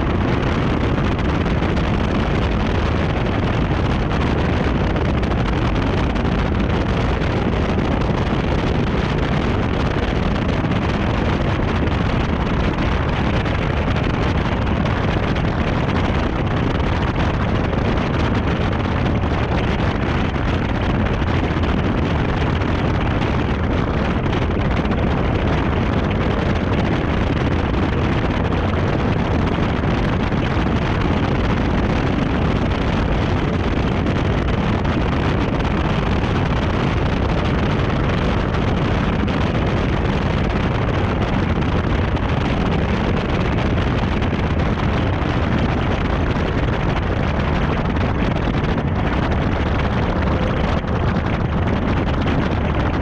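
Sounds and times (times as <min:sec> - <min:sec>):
tyre and road roar: 0:00.0 - 0:53.0
wind buffeting microphone: 0:00.0 - 0:53.0.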